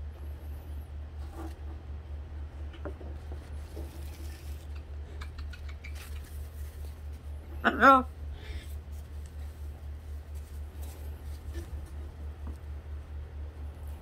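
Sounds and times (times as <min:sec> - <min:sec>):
steady low hum: 0:00.0 - 0:14.0
parrot rustling: 0:00.6 - 0:14.0.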